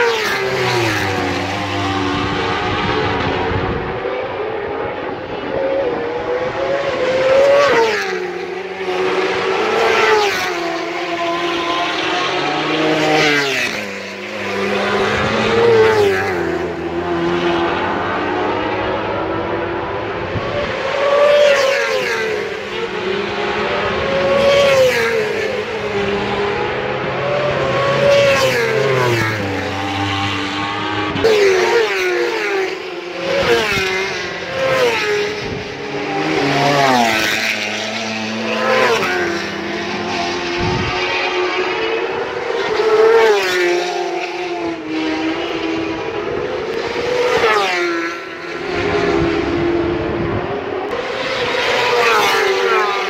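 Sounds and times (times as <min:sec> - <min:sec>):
racing motorcycle engines revving: 0:00.0 - 0:53.0.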